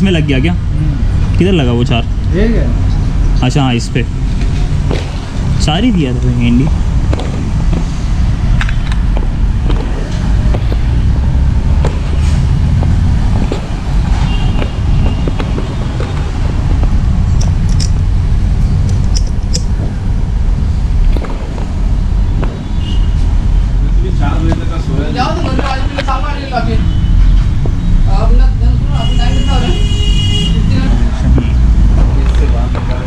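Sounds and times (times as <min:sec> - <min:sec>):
low rumble of traffic: 0:00.0 - 0:33.0.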